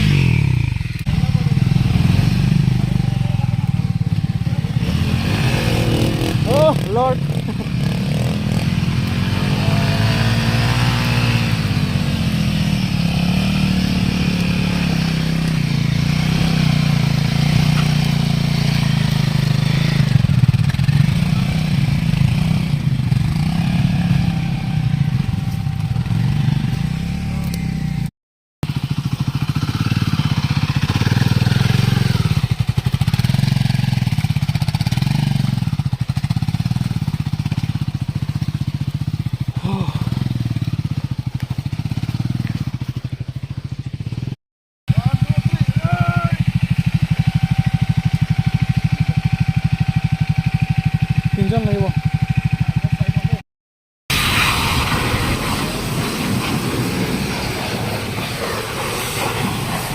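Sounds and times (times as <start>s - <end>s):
motorcycle engine running: 0.0s - 53.4s.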